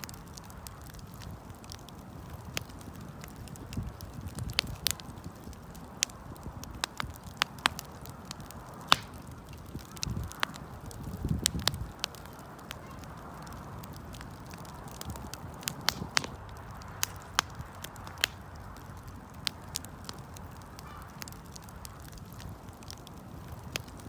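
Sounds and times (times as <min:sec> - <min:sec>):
campfire crackling and popping: 0:00.0 - 0:24.0
rush of flames: 0:00.0 - 0:24.0.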